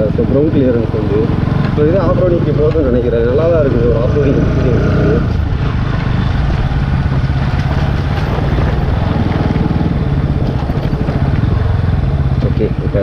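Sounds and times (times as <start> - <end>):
motorcycle engine running low: 0.0 - 13.0.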